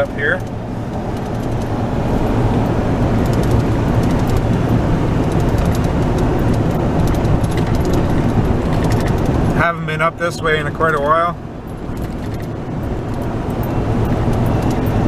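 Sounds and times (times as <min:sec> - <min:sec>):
tyres on the road: 0:00.0 - 0:15.0
vehicle engine drone: 0:00.0 - 0:15.0.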